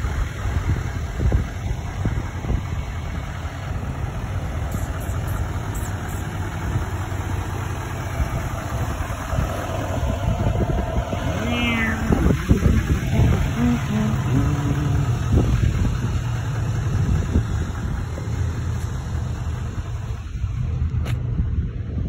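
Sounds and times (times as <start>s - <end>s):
diesel pickup engine idling: 0.0s - 22.0s.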